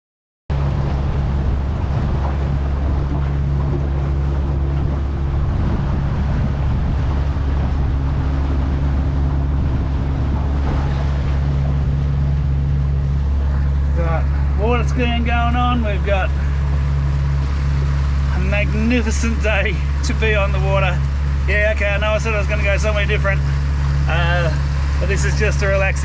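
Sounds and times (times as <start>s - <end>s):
outboard motor humming: 0.5s - 26.0s
water noise: 0.5s - 26.0s
wind: 0.5s - 26.0s.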